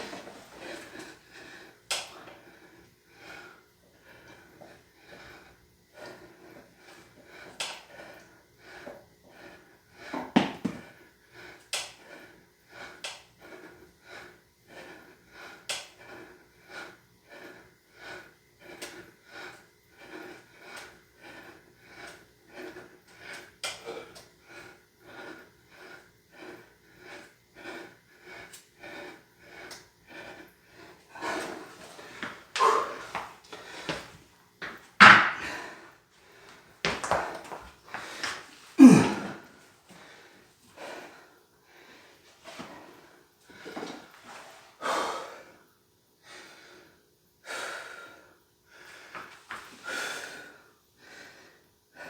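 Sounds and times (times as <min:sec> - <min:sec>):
person breathing hard: 0:00.0 - 0:52.0.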